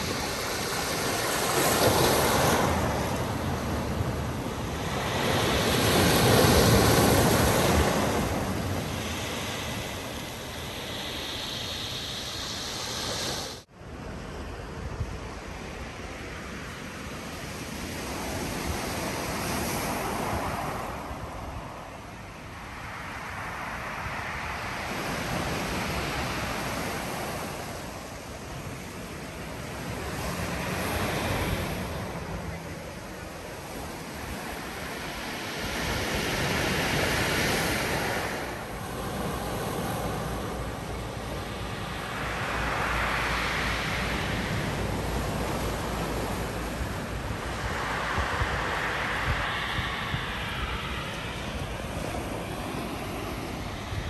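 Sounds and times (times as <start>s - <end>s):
surf washing over pebble beach: 0.0s - 13.7s, 22.9s - 54.0s.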